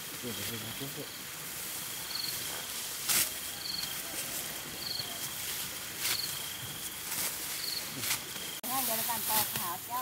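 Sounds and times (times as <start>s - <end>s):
high thin insect drone: 0.0s - 10.0s
insect chirps: 0.0s - 10.0s.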